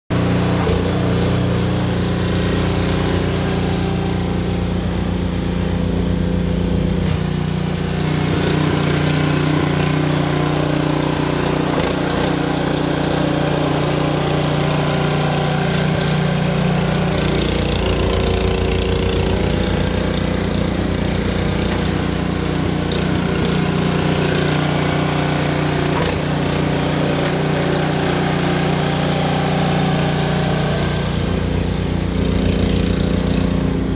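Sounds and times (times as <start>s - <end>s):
snowblower engine running: 0.1s - 33.9s.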